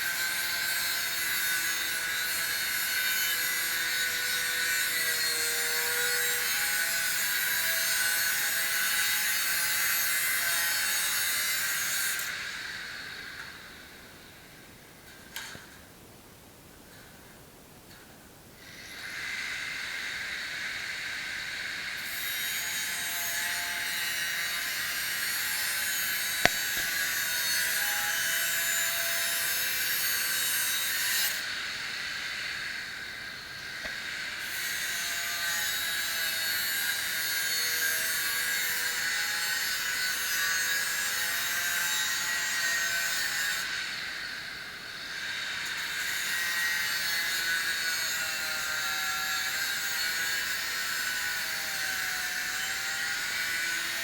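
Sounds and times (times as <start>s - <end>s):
angle grinder grinding metal: 0.1s - 13.5s, 22.0s - 44.0s, 45.2s - 54.0s.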